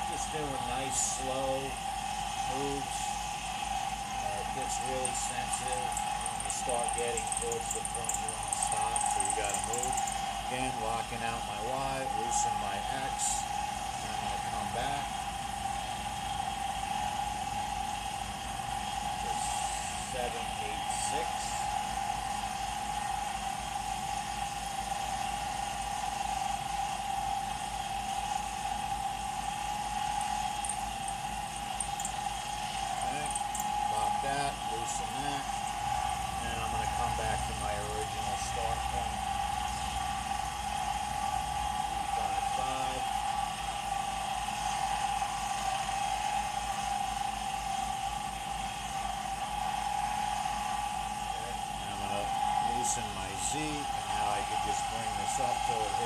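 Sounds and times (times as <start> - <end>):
mill-lathe cutting metal: 0.0 - 56.0
motor hum: 0.0 - 56.0
steady whine: 0.0 - 56.0.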